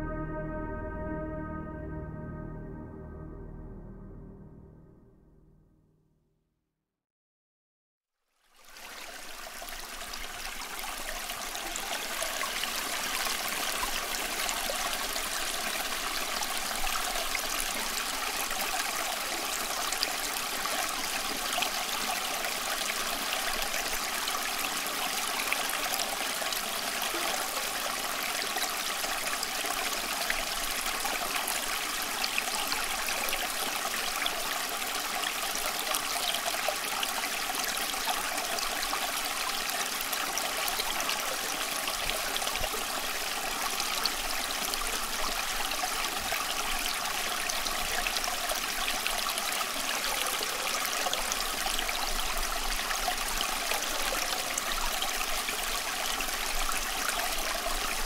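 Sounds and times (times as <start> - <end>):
small waterfall rushing: 8.6 - 58.0.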